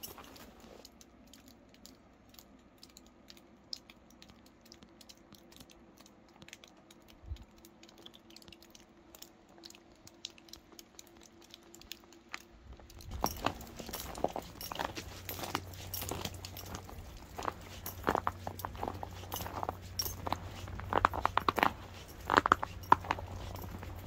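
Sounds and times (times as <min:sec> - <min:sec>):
faint clicks and crackles: 0:00.0 - 0:24.0.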